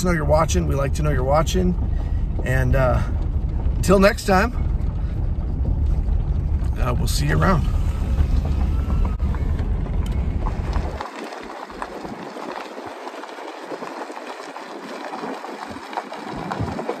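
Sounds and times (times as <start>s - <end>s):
road noise with rattles: 0.0s - 17.0s
wind buffeting microphone: 0.0s - 17.0s.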